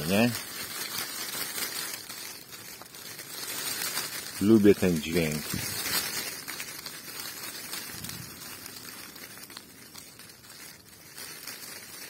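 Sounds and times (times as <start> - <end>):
leaves rustling on shaken branch: 0.0 - 12.0.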